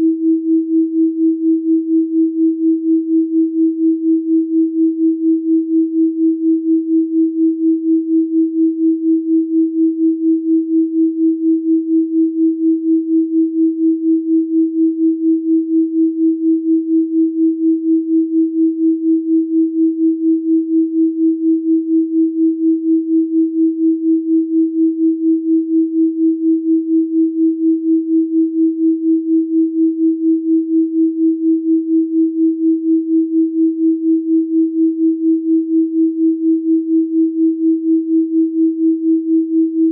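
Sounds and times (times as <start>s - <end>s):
pulsing electronic sine tone: 0.0s - 39.9s.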